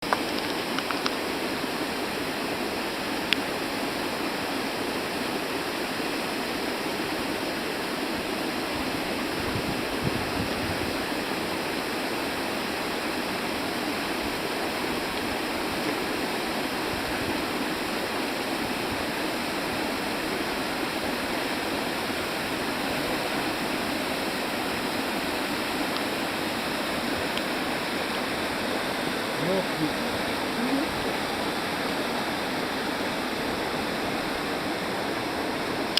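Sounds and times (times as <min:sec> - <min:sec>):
waterfall roaring: 0:00.0 - 0:35.9.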